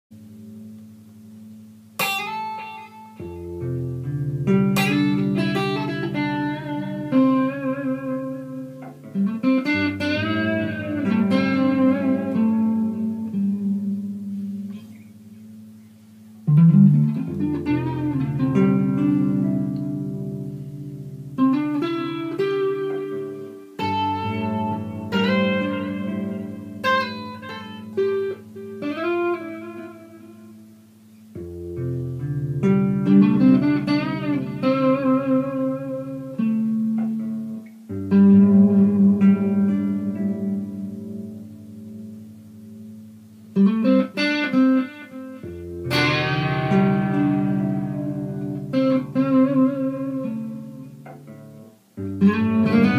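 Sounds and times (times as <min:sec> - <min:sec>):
guitar picked melody with bass notes: 0:00.2 - 0:52.9.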